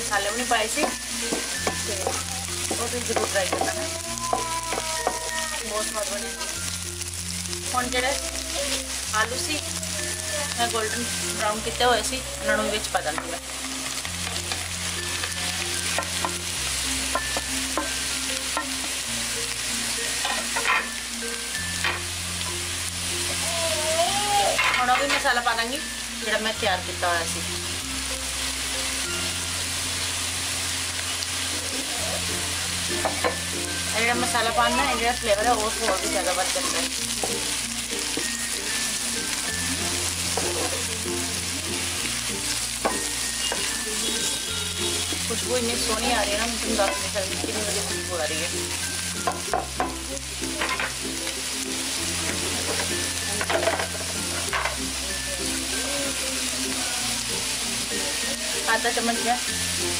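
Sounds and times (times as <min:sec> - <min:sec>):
light background music: 0:00.0 - 0:59.9
vegetables sizzling in hot oil: 0:00.0 - 0:59.9.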